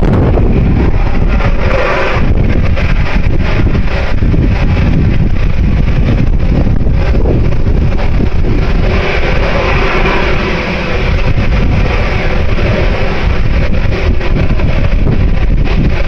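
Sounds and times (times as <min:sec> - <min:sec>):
steady droning tone: 0:00.0 - 0:16.0
wind buffeting microphone: 0:00.0 - 0:16.0.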